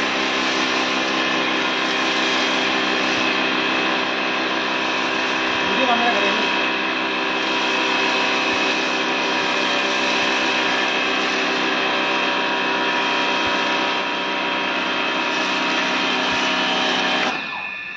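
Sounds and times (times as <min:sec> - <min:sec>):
pressure washer motor humming: 0:00.0 - 0:17.9.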